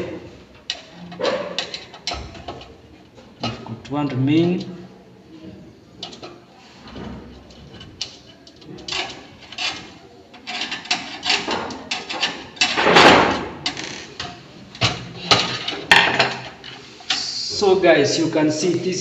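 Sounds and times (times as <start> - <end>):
power supply unit rattling: 0.0 - 19.0.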